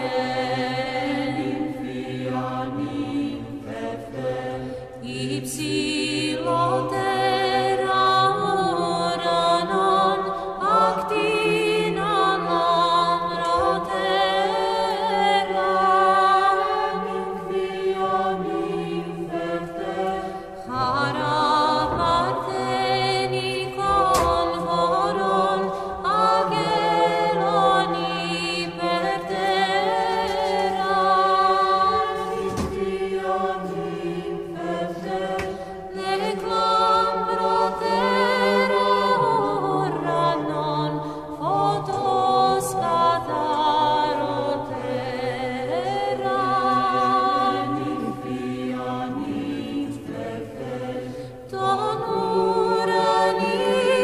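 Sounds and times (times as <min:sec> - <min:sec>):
choir singing a slow chant: 0:00.0 - 0:54.0.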